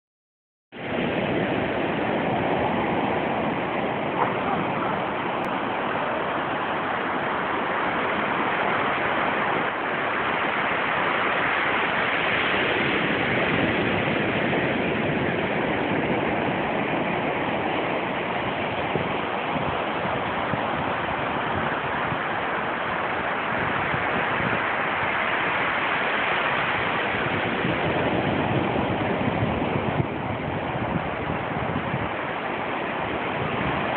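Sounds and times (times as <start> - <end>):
surf washing on beach: 0.8 - 33.9.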